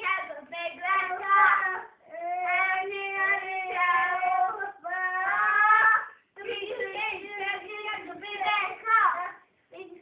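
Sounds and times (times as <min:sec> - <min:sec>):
small children singing: 0:00.0 - 0:10.0.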